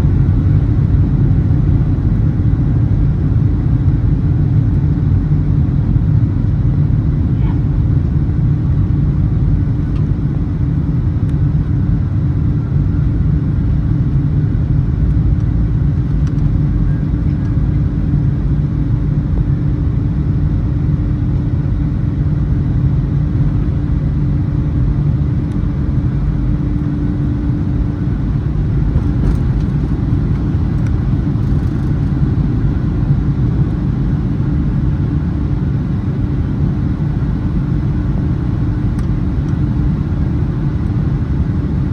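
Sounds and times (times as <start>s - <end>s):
jet engines rumbling: 0.0s - 41.9s.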